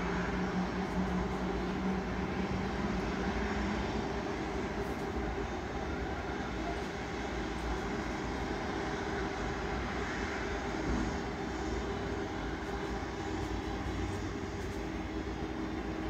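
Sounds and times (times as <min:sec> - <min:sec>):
jet engines running at low power: 0:00.0 - 0:16.0.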